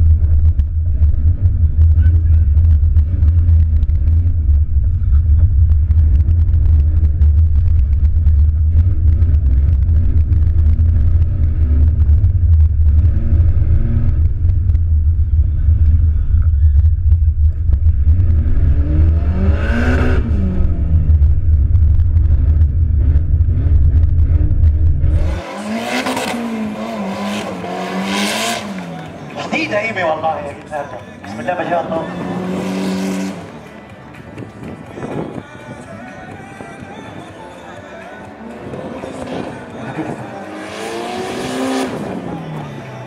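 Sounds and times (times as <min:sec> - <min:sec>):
car engine revving: 0:00.0 - 0:35.8, 0:37.0 - 0:43.0.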